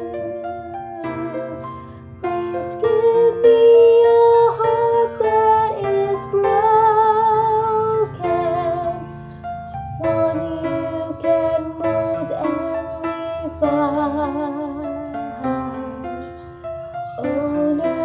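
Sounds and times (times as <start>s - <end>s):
woman singing soprano: 0.0s - 9.3s, 9.9s - 18.0s.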